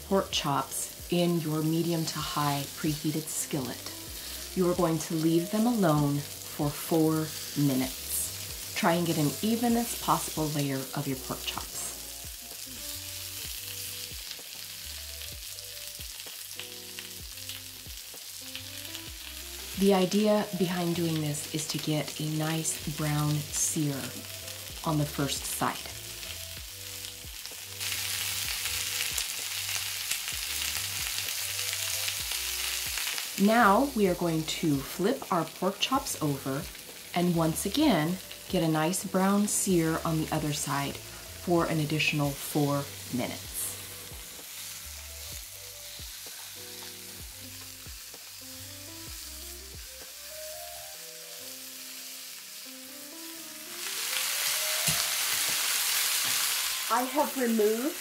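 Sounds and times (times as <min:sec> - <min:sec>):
background music with held notes: 0:00.0 - 0:58.0
meat sizzling in a skillet: 0:00.0 - 0:58.0.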